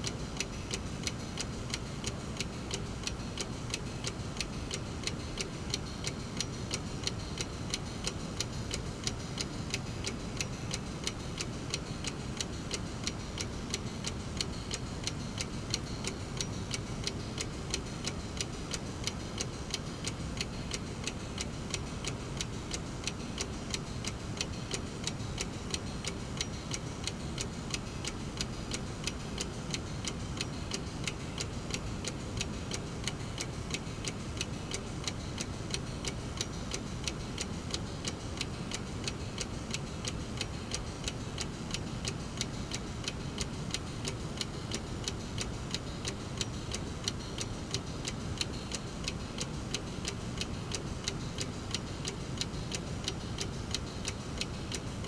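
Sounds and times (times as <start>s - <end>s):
mechanical clock ticking: 0.0s - 55.0s.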